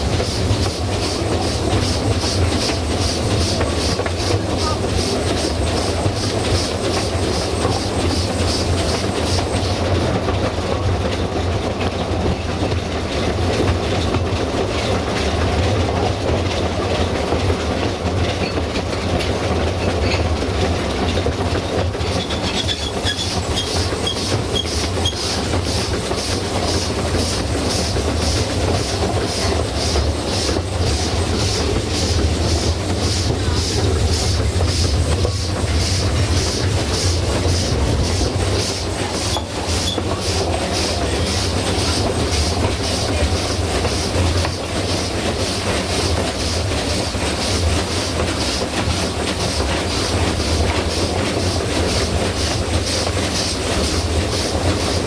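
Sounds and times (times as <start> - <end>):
steam engine rapid beat: 0.0 - 55.0
train carriage and wheels rumbling: 0.0 - 55.0.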